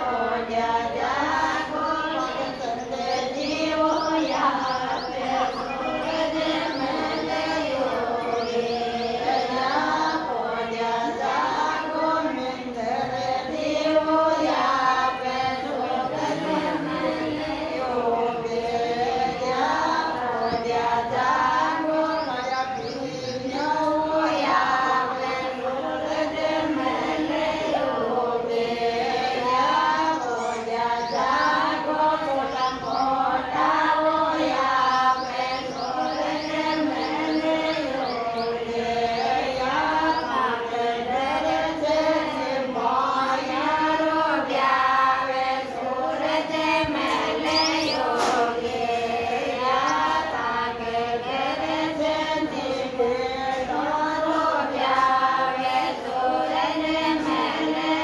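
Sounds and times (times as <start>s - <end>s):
women singing in unison: 0.0s - 58.0s.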